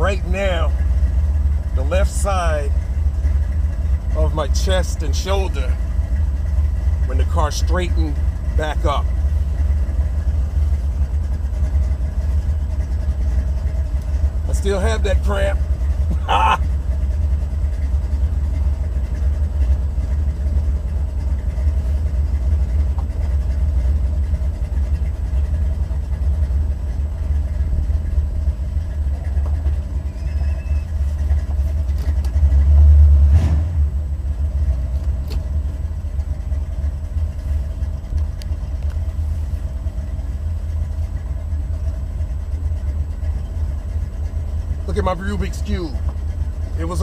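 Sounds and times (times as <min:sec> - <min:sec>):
car engine rumbling: 0:00.0 - 0:47.0.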